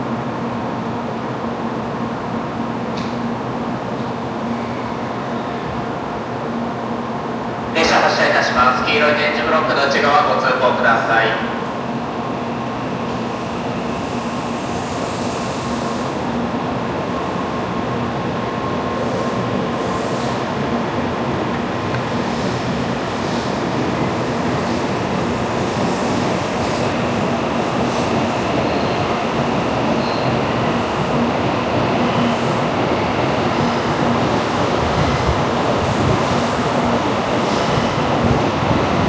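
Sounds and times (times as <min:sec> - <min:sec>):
train rushing noise: 0:00.0 - 0:39.0.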